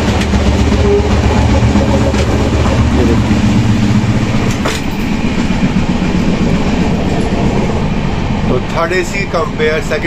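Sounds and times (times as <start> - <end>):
train coach rumble and rattling: 0.0 - 10.0.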